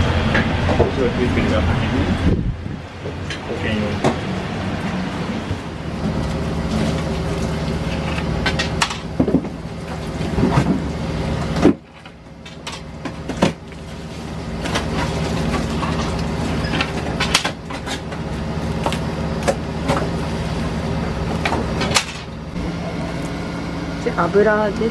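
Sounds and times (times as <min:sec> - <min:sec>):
low mechanical hum: 0:00.0 - 0:24.9.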